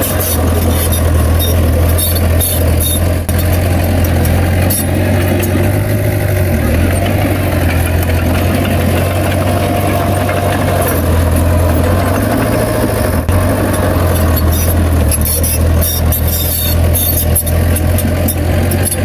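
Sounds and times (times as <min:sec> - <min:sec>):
diesel machinery engine humming: 0:00.0 - 0:19.0.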